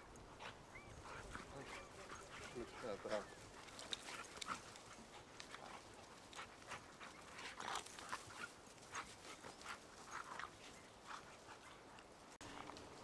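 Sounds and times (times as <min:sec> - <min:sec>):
dogs play-fighting noises: 0:00.0 - 0:13.0.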